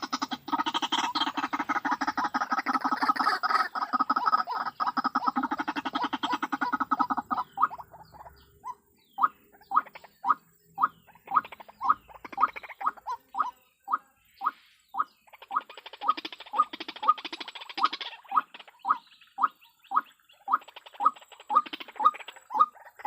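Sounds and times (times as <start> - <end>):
waterhen calls: 0.0 - 23.0.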